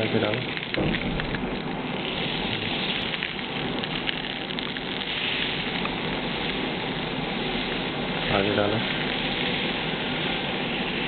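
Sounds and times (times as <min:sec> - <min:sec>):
machinery hum: 0:00.0 - 0:11.0
powder granules pattering: 0:00.0 - 0:11.0.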